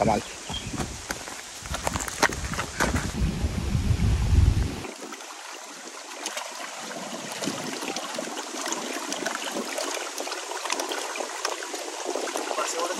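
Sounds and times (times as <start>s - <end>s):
waves lapping on stony shore: 0.7s - 3.2s, 4.8s - 12.9s.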